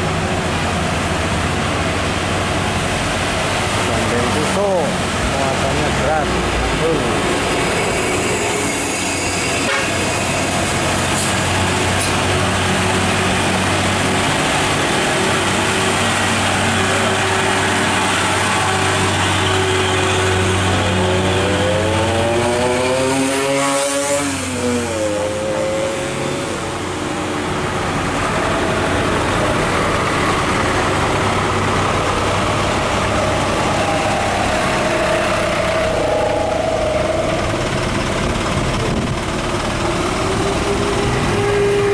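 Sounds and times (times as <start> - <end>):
heavy diesel trucks passing: 0.0 - 41.9.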